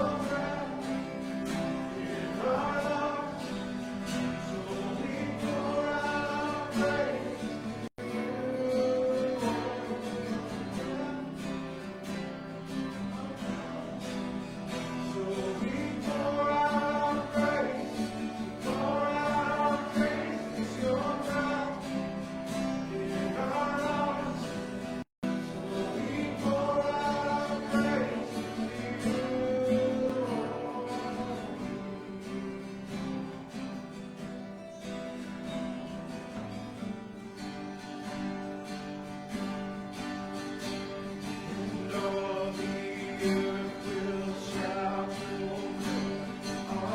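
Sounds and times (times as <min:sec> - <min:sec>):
congregation singing worship song: 0:00.0 - 0:34.3, 0:38.1 - 0:46.9
guitar accompaniment: 0:00.0 - 0:46.9.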